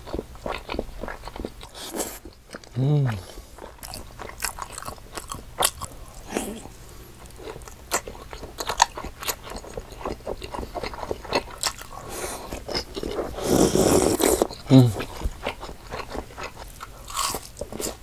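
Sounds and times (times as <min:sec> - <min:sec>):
crunchy snack eating: 0:00.4 - 0:18.0.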